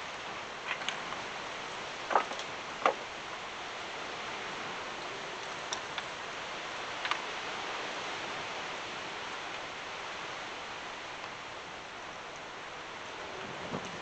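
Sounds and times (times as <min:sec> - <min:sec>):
wind hiss on microphone: 0:00.0 - 0:14.0.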